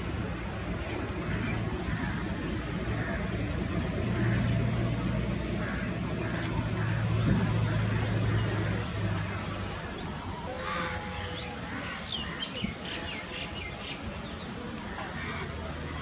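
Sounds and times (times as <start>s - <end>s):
low engine-like hum: 0.0s - 16.0s
birds chirping: 1.1s - 16.0s.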